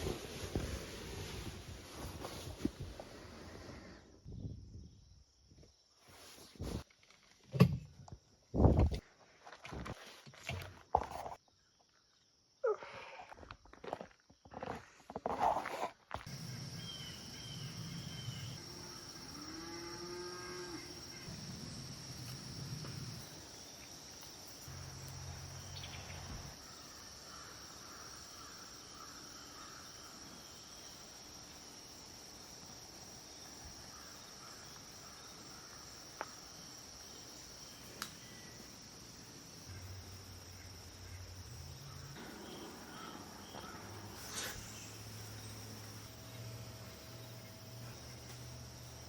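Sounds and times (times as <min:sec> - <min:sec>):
crickets trilling: 0:08.1 - 0:49.0.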